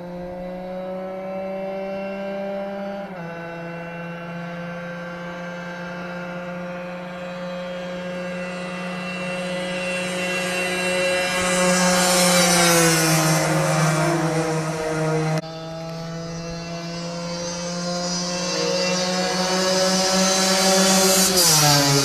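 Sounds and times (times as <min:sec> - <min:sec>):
two-stroke motorcycle passing by: 0:00.0 - 0:22.0.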